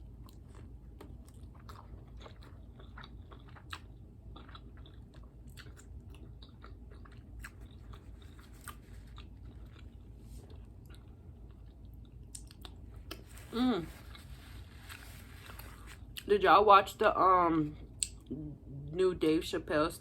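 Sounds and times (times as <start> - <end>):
chewing and crunching taco: 0.0 - 16.4.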